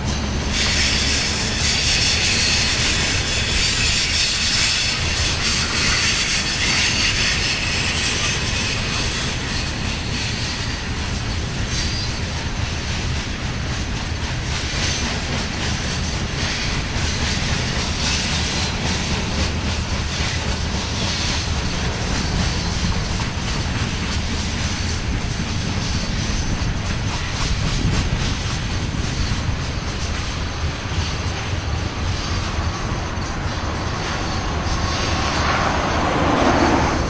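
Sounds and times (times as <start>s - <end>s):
clickety-clack of rail joints: 0.0s - 37.0s
train wheels rumbling on rails: 0.0s - 37.0s.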